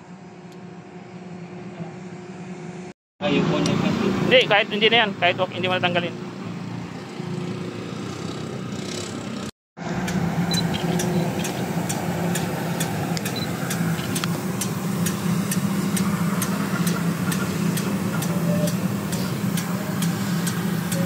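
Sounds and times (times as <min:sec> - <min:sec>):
low machinery hum: 0:00.0 - 0:07.2, 0:09.8 - 0:21.0.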